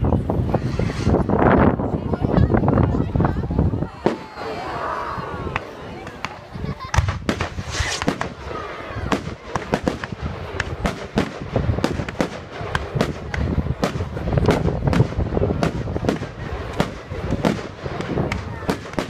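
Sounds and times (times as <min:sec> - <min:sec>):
fireworks bursting: 0:00.0 - 0:04.7, 0:05.5 - 0:19.0.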